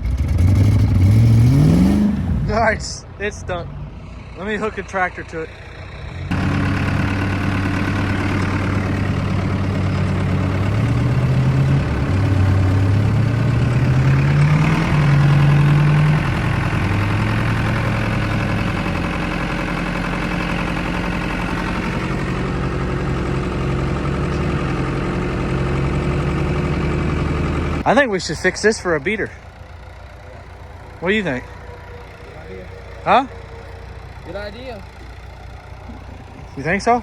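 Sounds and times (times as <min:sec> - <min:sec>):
tractor engine revving: 0:00.0 - 0:37.0.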